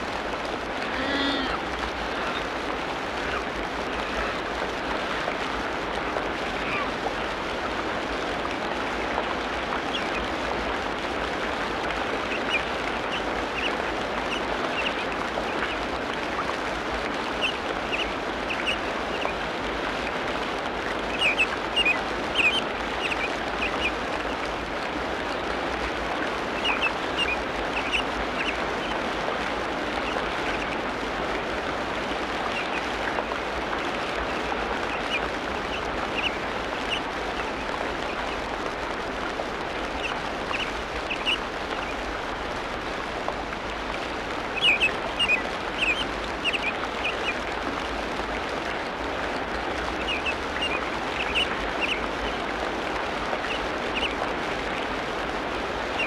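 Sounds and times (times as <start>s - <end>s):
rainforest hiss: 0.0s - 56.0s.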